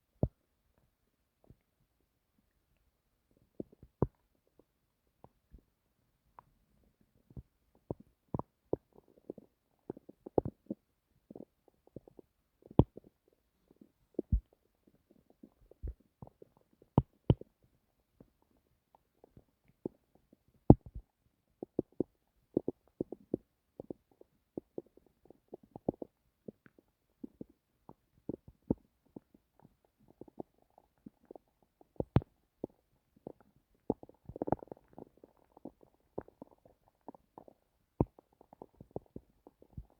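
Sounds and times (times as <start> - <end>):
stomach gurgling: 3.2 - 39.9.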